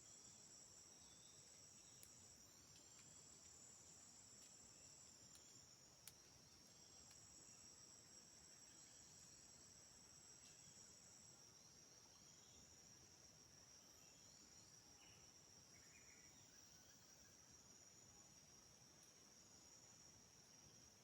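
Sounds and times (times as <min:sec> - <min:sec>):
insect chorus trilling: 0:00.0 - 0:21.0.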